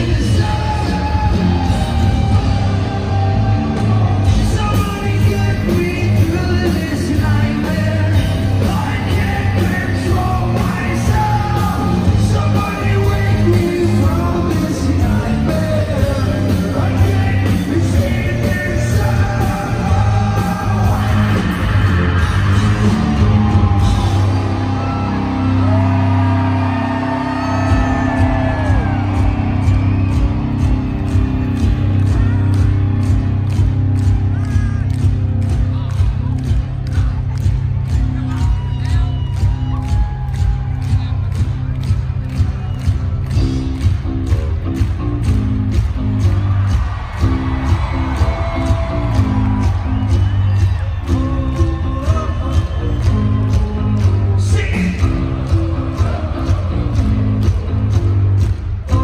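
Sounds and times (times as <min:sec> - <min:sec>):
live hard rock band: 0:00.0 - 0:59.0.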